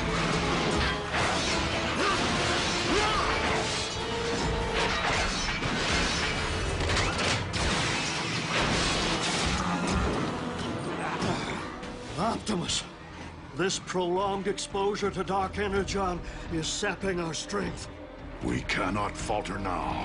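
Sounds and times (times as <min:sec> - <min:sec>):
action music score: 0:00.0 - 0:20.0.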